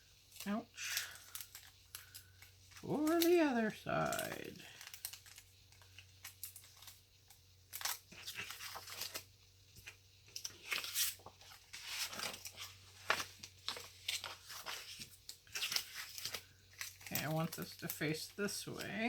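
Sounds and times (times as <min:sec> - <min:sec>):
paper crinkling: 0:00.2 - 0:07.0, 0:07.7 - 0:19.0.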